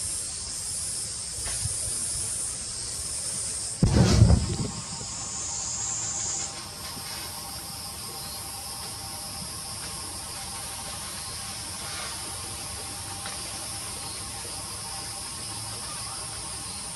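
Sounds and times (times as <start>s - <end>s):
high-pitched insect chorus: 0.0s - 16.9s.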